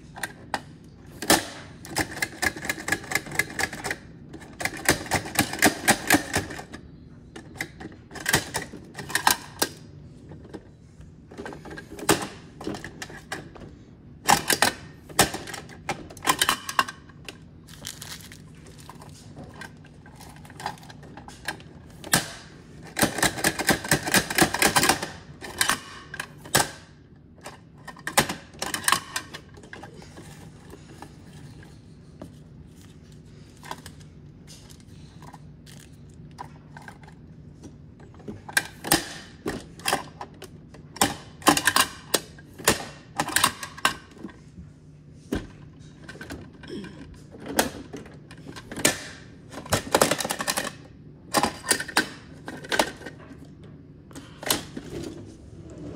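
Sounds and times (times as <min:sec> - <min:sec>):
low steady hum: 0:00.0 - 0:55.9.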